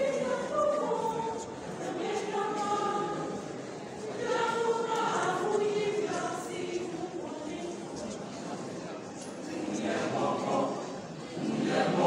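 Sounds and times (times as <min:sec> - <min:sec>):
choir singing a hymn: 0:00.0 - 0:08.1, 0:09.5 - 0:12.0.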